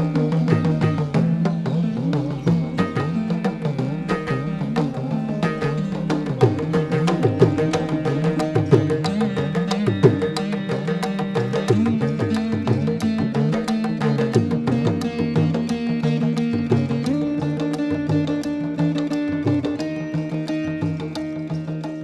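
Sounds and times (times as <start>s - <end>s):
fast hand drumming: 0.0s - 22.0s.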